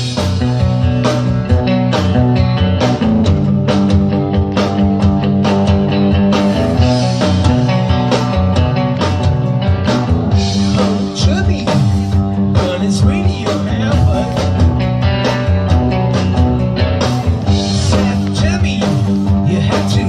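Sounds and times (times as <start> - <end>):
bass guitar: 0.0 - 20.0
electric guitar: 0.0 - 20.0
live rock band playing: 0.0 - 20.0.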